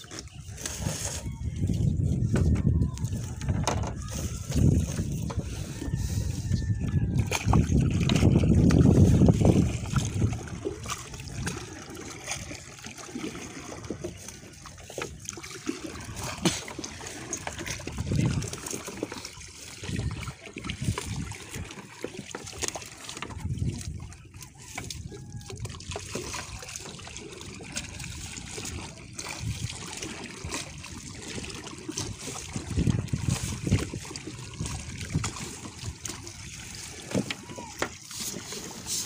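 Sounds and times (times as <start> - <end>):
paddle splashing in water: 0.0 - 39.0
water trickling off fishing net: 3.0 - 39.0.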